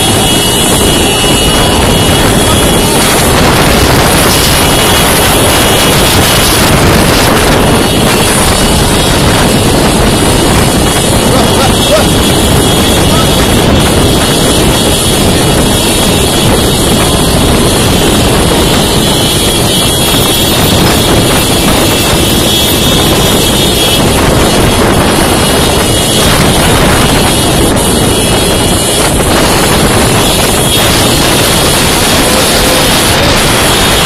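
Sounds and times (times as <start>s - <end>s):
vehicle running noise: 0.0s - 34.0s
wind rushing across microphone: 0.0s - 34.0s.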